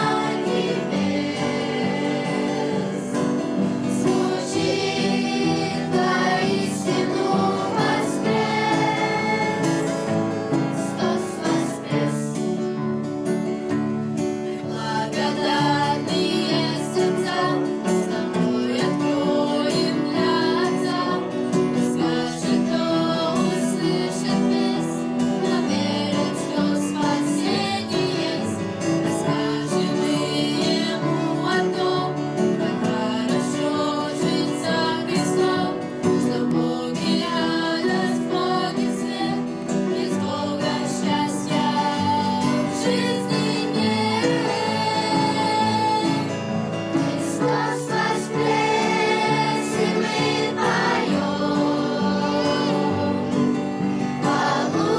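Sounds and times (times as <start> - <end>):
acoustic guitar: 0.0 - 54.9
people singing: 0.0 - 54.9.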